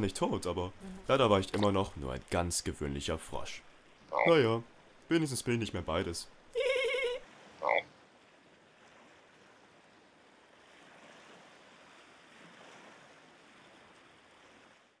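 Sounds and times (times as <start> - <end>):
pond water ambience: 0.0 - 15.0.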